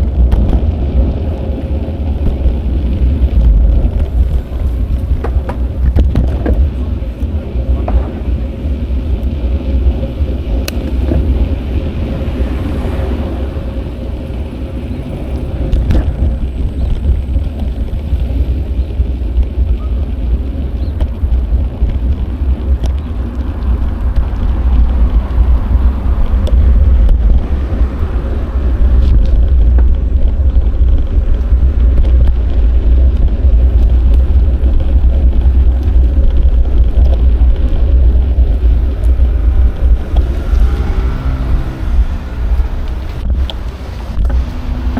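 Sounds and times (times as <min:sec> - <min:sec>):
bicycle road noise: 0:00.0 - 0:44.9
wind rumbling on microphone: 0:00.0 - 0:44.9.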